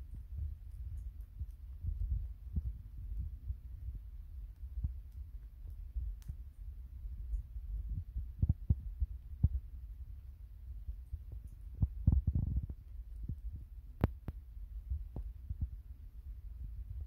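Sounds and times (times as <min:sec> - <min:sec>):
rabbit chewing hay: 0:00.0 - 0:16.2.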